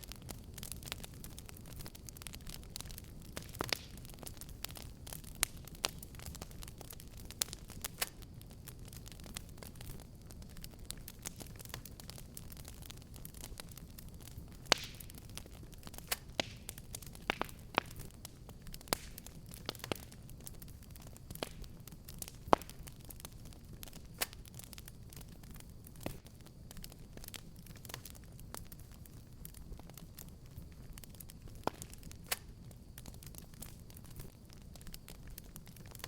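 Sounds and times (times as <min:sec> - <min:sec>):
low rumble of burning: 0:00.0 - 0:36.0
wood fire crackling and popping: 0:00.0 - 0:36.0.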